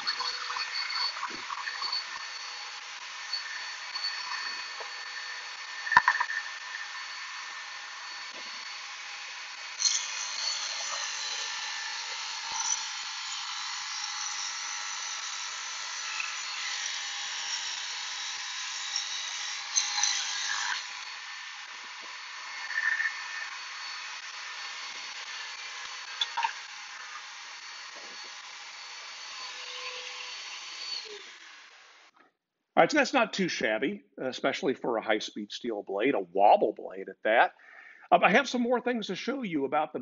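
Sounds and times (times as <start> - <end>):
blade cutting wood: 0.0 - 32.1.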